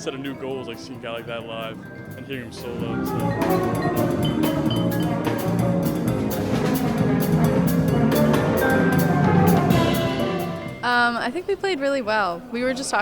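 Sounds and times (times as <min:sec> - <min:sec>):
cymbals keeping a beat: 0:00.0 - 0:11.0
jazz ensemble playing: 0:00.0 - 0:11.2.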